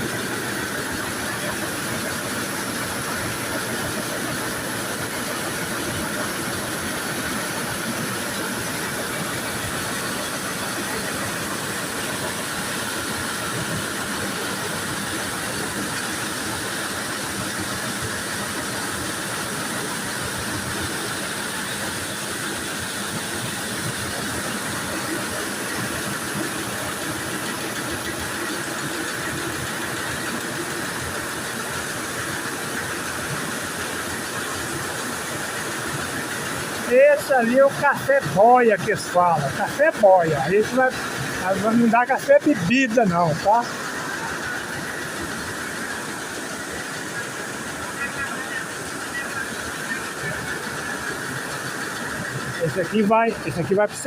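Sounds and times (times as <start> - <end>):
machinery humming and hissing: 0.0 - 54.0.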